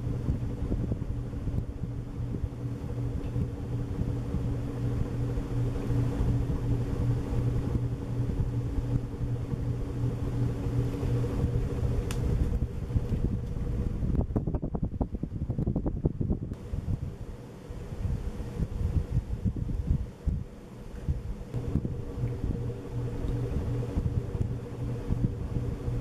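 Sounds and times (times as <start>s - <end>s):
air buffeting microphone: 0.0s - 26.0s
ceiling fan motor hum: 0.0s - 26.0s.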